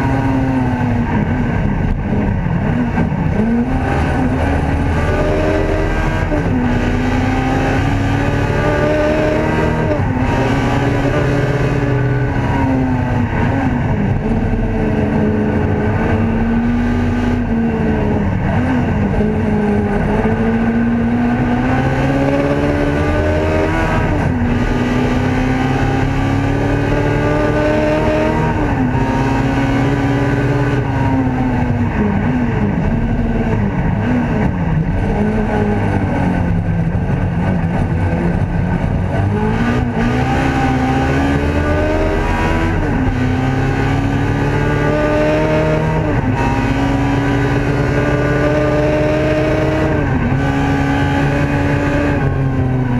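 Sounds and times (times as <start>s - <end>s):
race car engine at full throttle: 0.0s - 52.9s.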